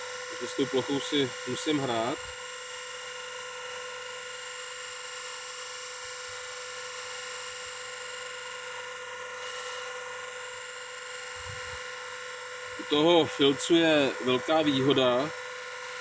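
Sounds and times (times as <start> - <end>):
bench grinder humming and whining: 0.0 - 16.0.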